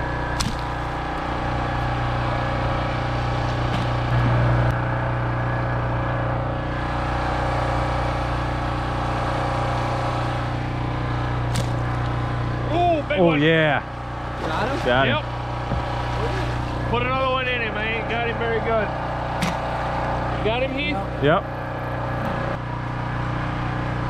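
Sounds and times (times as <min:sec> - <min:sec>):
small engine droning: 0:00.0 - 0:24.0.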